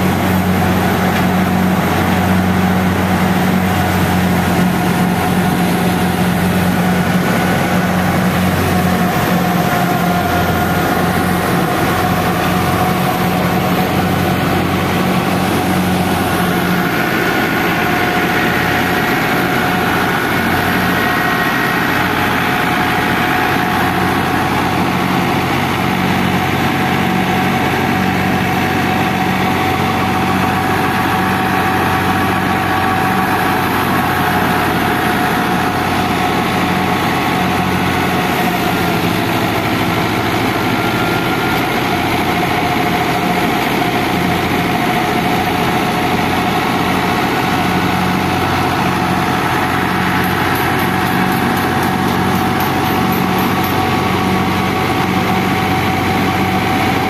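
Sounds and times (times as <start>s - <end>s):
threshing machinery drone: 0.0s - 57.0s
tractor diesel engine running: 0.0s - 57.0s.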